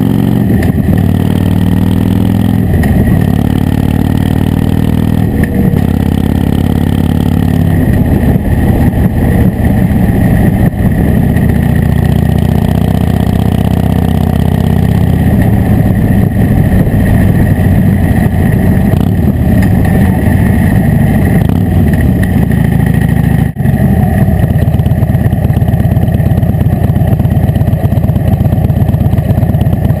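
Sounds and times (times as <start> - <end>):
motorcycle engine running loud: 0.0 - 30.0.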